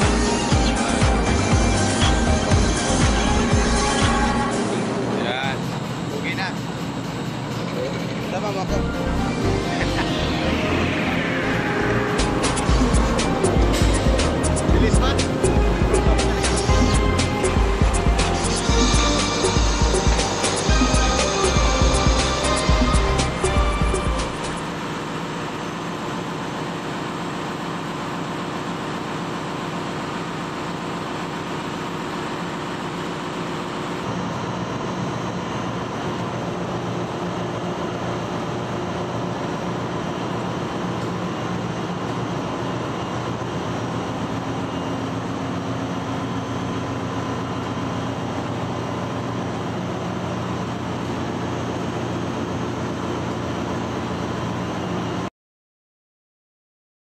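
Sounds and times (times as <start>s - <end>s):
engine room machinery droning: 0.0s - 55.3s.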